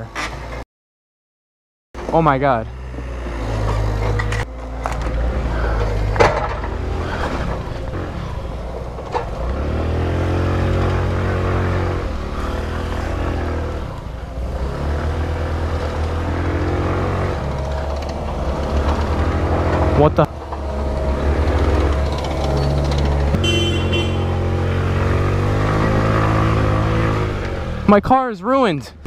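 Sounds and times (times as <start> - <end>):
moped engine revving: 2.0 - 28.0.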